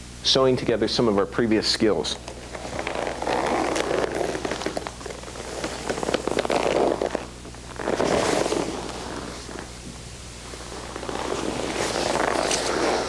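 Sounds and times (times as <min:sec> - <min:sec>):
steady low hum: 0:00.0 - 0:13.0
body rustling on a mat: 0:02.1 - 0:13.0.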